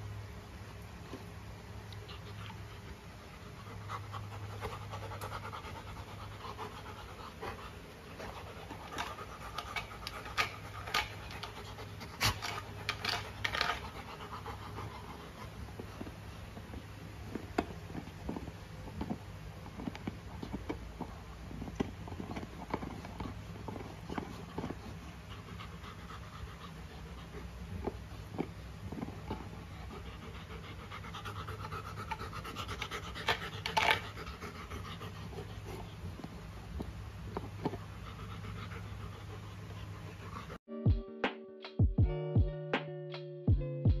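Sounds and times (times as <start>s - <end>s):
dog panting: 1.9s - 40.6s.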